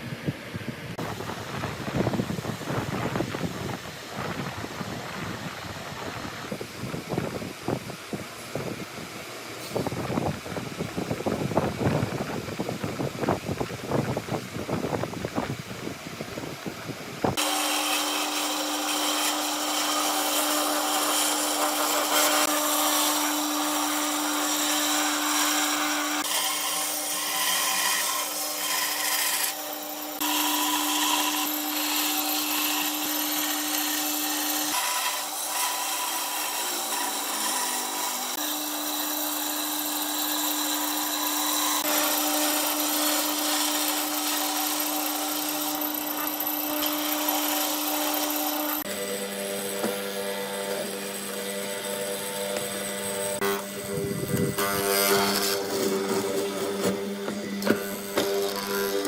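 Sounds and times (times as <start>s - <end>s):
power tool cutting wood: 0.9s - 59.0s.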